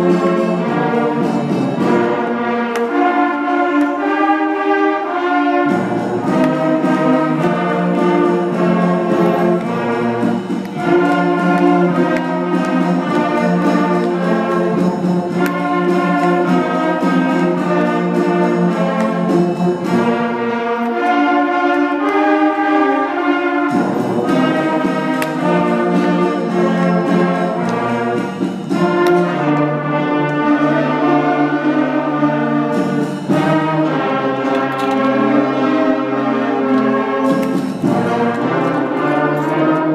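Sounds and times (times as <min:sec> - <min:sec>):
concert band playing held chords: 0:00.0 - 0:39.9.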